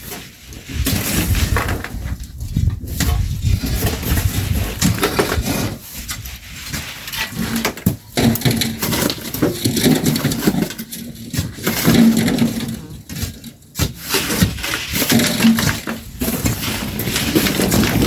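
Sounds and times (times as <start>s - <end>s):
shovels digging gravel: 0.0s - 18.0s.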